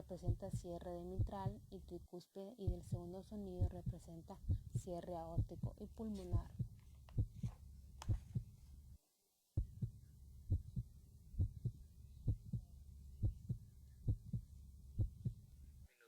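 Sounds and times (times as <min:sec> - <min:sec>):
heartbeat through stethoscope: 0:00.0 - 0:02.0, 0:02.6 - 0:08.5, 0:09.6 - 0:15.4
low hum: 0:00.0 - 0:09.0, 0:09.6 - 0:15.9.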